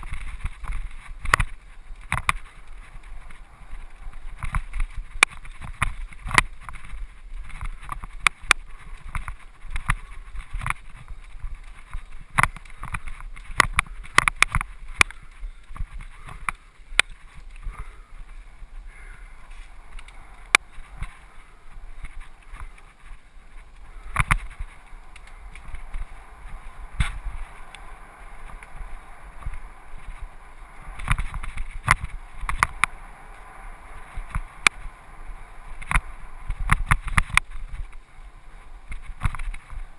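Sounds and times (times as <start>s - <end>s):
bike rattling over bumps: 0.0s - 39.9s
bike tyres rumbling on dirt trail: 0.0s - 39.9s.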